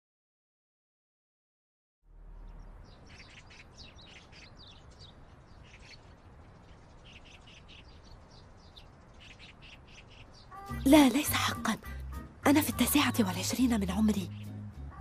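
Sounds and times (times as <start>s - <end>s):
small birds chirping: 2.2s - 15.0s.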